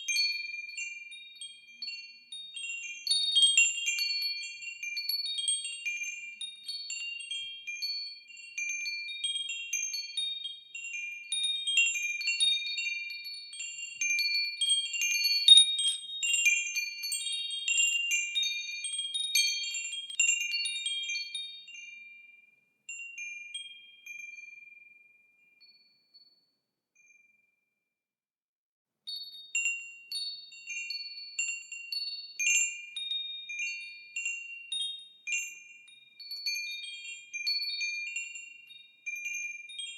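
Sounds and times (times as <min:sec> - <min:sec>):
wind chimes ringing: 0:00.0 - 0:26.2, 0:29.1 - 0:39.9.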